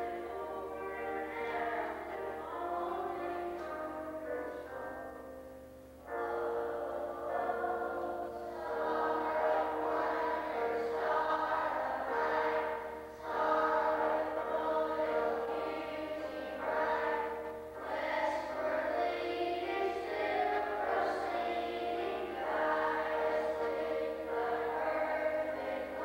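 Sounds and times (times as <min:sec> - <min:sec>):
church choir singing: 0:00.0 - 0:05.4, 0:06.0 - 0:26.0.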